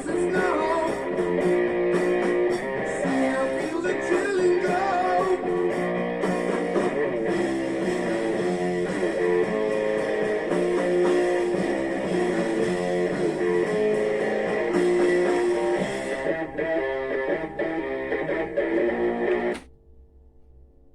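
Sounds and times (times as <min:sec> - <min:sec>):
plucked and strummed guitar music: 0:00.0 - 0:19.7.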